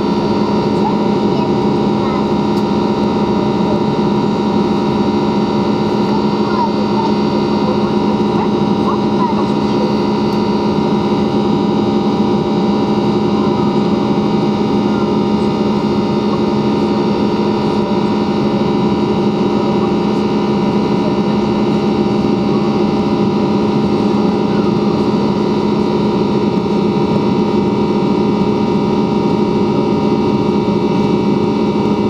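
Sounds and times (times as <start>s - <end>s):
airplane cabin engine drone: 0.0s - 32.0s.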